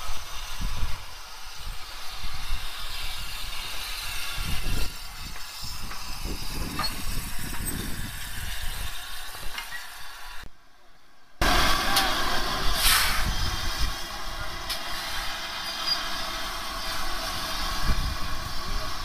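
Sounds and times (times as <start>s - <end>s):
locomotive steam hiss: 0.0s - 10.5s, 11.4s - 19.0s
low train rumble: 0.0s - 19.0s.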